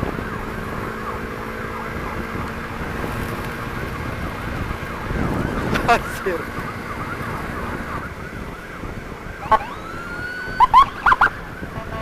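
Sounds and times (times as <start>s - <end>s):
ambulance siren yelping: 0.0s - 2.8s, 4.2s - 12.0s
road noise: 0.0s - 12.0s.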